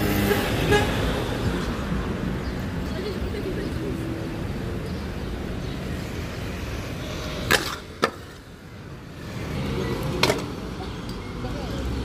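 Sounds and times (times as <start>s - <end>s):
wheels rolling on pavement: 1.0s - 12.0s.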